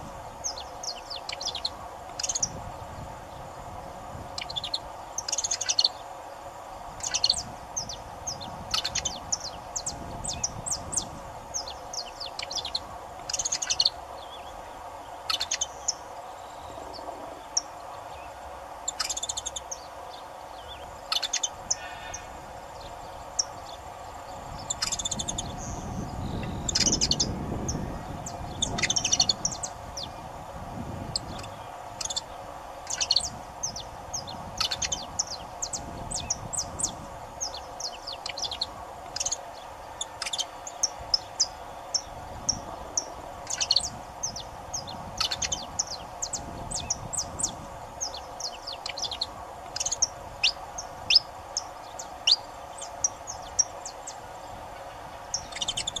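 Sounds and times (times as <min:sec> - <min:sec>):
steady background hum: 0:00.0 - 0:56.0
finch chirping: 0:00.4 - 0:02.6, 0:04.3 - 0:06.0, 0:07.0 - 0:14.6, 0:15.2 - 0:30.2, 0:31.1 - 0:54.2, 0:54.8 - 0:56.0.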